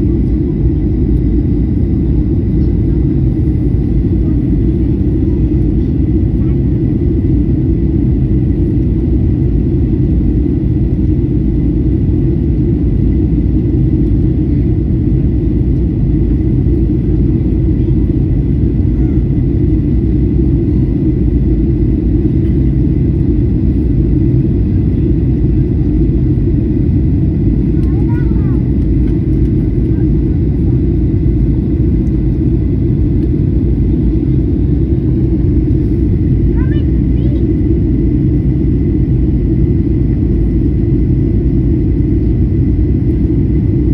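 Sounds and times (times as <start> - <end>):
airliner engine rumble: 0.0 - 43.9.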